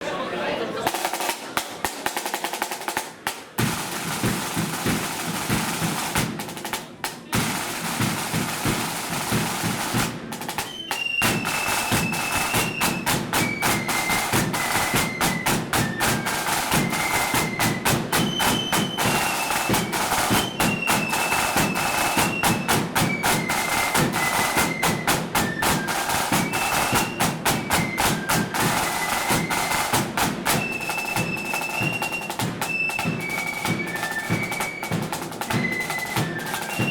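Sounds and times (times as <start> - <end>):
flutes playing marching tune: 0.8 - 36.9
snare drums: 0.8 - 36.9.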